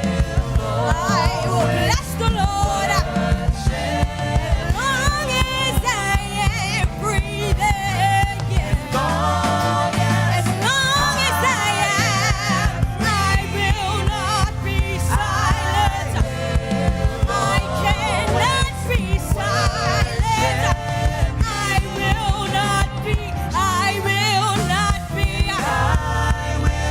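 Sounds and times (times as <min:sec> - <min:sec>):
bass: 0:00.0 - 0:26.9
steady drum beat: 0:00.0 - 0:26.9.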